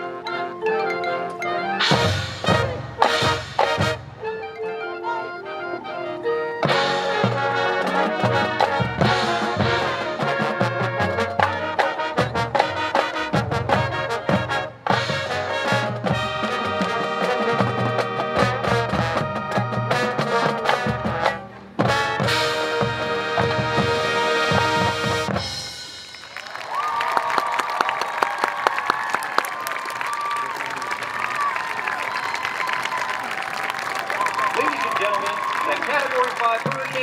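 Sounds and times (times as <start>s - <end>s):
marching band playing: 0.0s - 27.0s, 30.1s - 37.0s.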